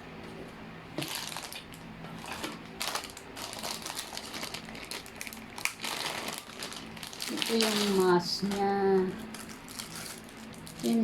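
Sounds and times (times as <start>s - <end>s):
plastic packaging crinkling: 1.0s - 11.0s.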